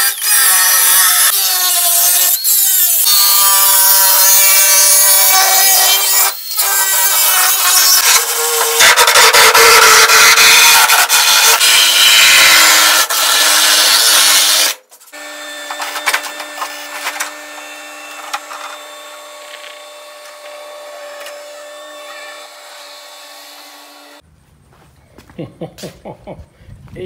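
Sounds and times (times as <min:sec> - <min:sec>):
angle grinder cutting metal: 0:00.0 - 0:24.2.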